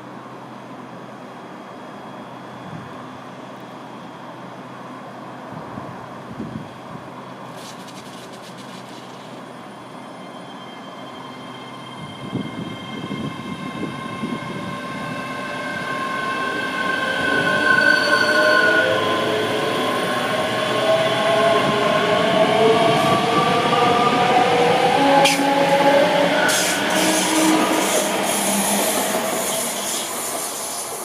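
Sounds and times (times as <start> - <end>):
train running: 3.2 - 14.9, 16.9 - 31.0.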